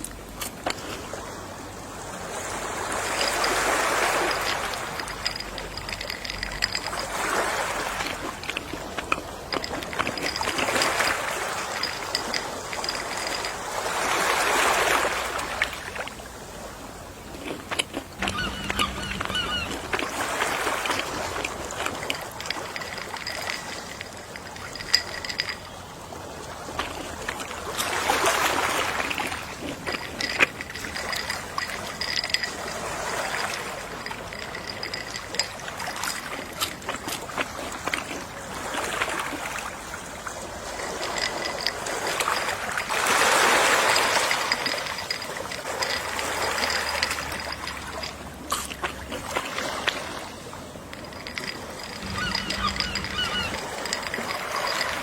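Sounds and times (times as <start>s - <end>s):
sea waves washing onto shore: 0.0s - 17.5s, 18.1s - 55.0s.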